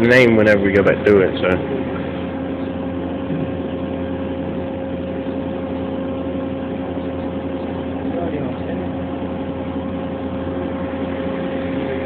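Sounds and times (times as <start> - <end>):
machine hum with constant tones: 0.0 - 12.0.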